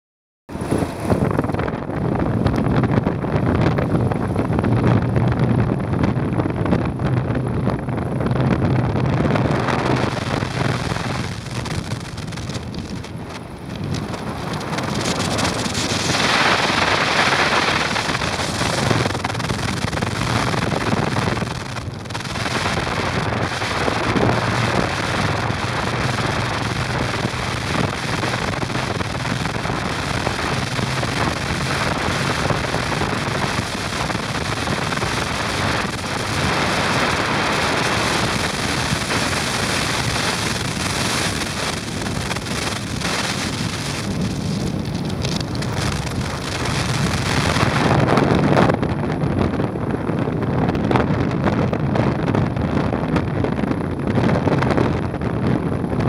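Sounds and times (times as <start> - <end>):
motorcycle engine humming: 0.5 - 56.0
wind rushing over microphone: 0.5 - 56.0.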